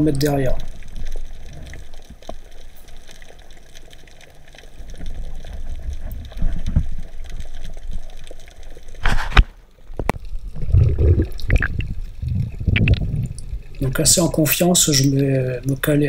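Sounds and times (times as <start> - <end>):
underwater rumbling and sloshing: 0.0 - 15.3.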